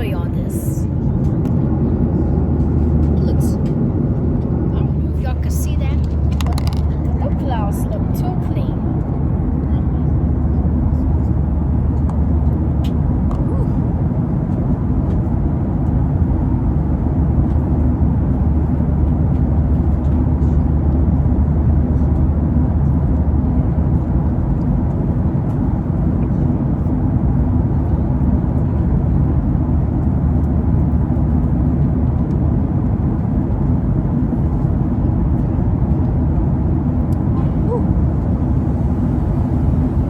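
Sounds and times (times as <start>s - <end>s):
airliner cabin engine roar: 0.0s - 40.0s.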